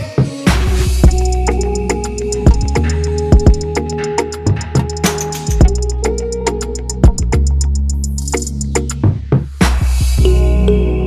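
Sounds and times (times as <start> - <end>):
electronic drum beat music: 0.0 - 10.5.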